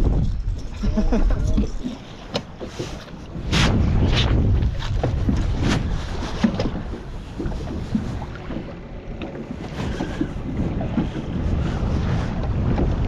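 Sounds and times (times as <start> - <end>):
water lapping against boat hull: 0.0 - 13.0
wind rumbling on microphone: 0.0 - 13.0.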